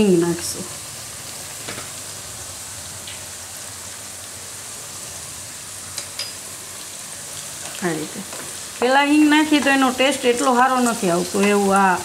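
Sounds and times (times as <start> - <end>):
okra sizzling in hot oil: 0.0 - 12.0.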